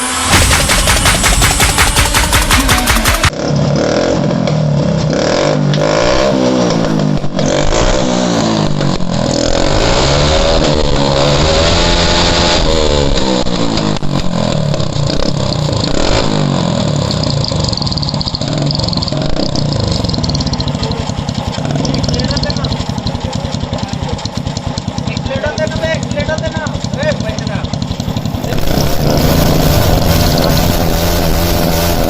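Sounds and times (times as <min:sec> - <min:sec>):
exhaust cracks: 0:00.0 - 0:32.0
motorcycle engine revving: 0:00.0 - 0:32.0.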